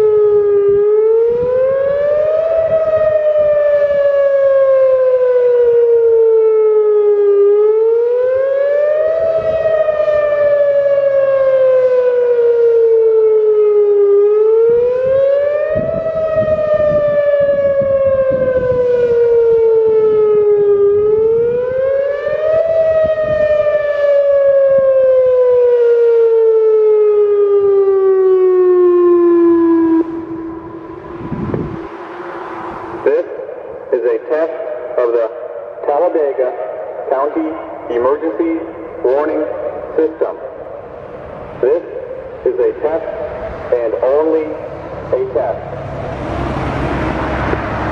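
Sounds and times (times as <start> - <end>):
warning siren wailing: 0.0 - 47.9.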